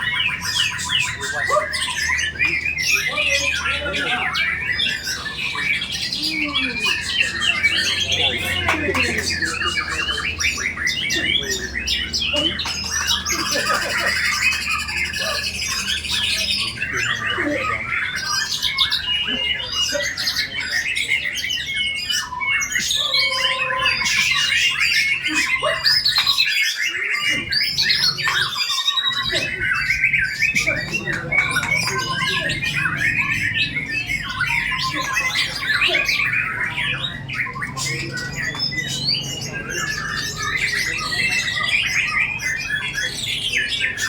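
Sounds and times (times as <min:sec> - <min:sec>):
bird singing whistles and trills: 0:00.0 - 0:44.0.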